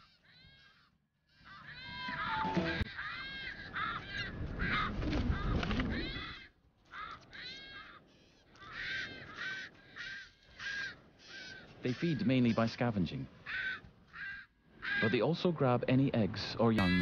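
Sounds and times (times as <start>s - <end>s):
birds squawking harshly: 0.0s - 15.6s, 16.8s - 17.0s.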